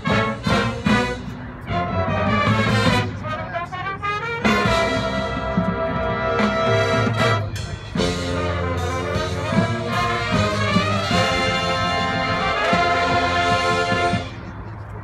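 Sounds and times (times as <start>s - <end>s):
brass chords: 0.0s - 14.5s.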